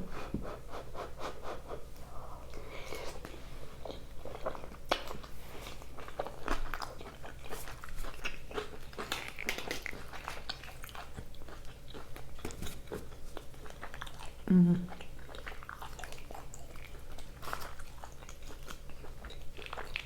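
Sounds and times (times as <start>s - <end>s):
person chewing food: 0.1s - 20.0s.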